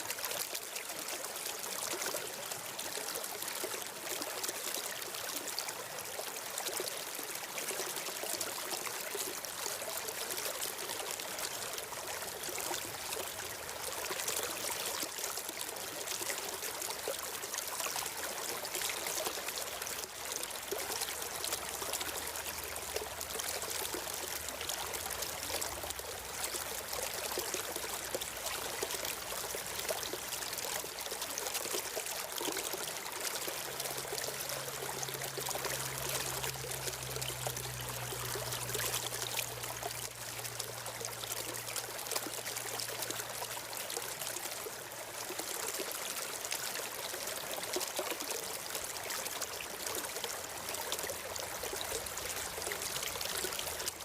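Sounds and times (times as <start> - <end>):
stream trickling and splashing: 0.0 - 54.0.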